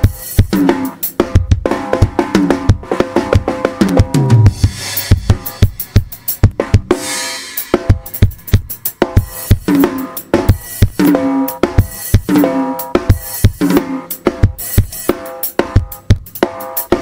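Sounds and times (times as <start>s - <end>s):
bass drum and snare: 0.0s - 17.0s.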